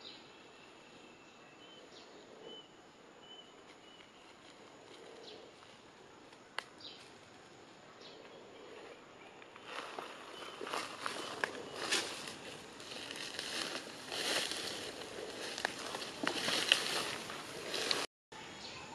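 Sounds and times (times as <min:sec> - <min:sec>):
faint forest ambience: 0:00.0 - 0:18.9.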